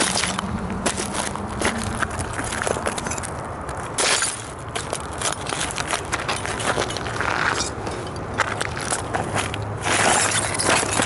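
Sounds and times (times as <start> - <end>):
shoes crunching plastic on gravel: 0.0 - 7.8, 8.4 - 11.0.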